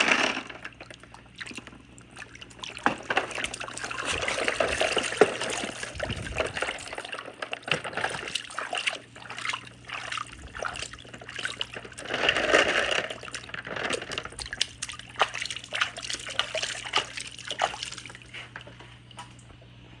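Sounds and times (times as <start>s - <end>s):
water trickling and sloshing: 0.2s - 19.7s.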